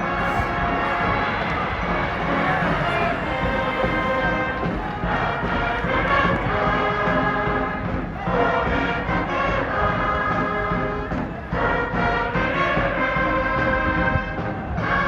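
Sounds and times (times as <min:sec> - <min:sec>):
music with sustained notes: 0:00.0 - 0:15.0.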